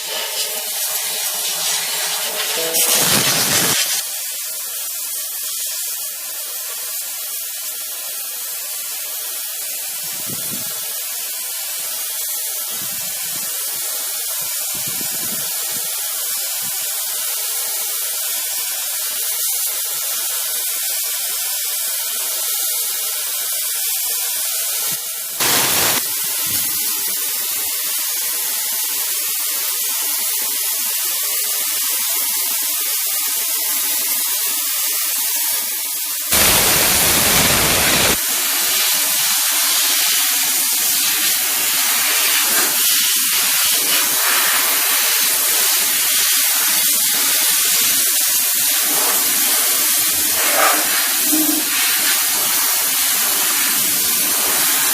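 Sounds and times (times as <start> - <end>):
steam cleaner hissing: 0.0 - 54.9.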